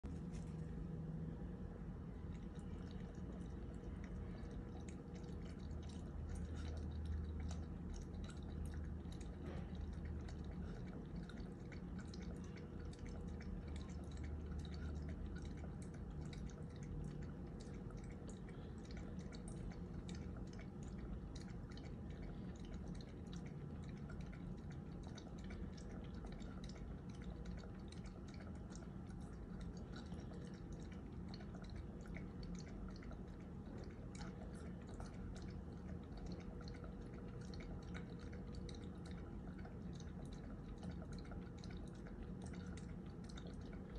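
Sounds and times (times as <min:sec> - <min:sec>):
dog lapping water: 0:02.2 - 0:43.9.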